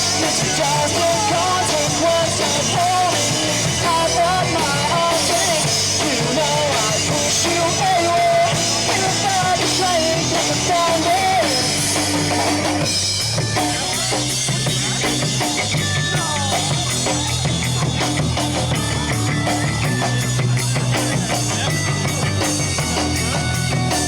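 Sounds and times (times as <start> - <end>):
rock band playing instrumental: 0.0 - 24.0
steady drumbeat: 0.0 - 24.0.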